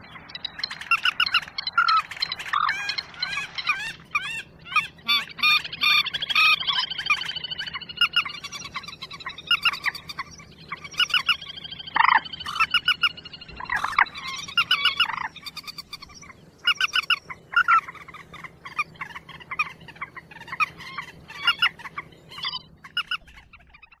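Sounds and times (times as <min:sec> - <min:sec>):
bird calls: 0:00.0 - 0:24.0.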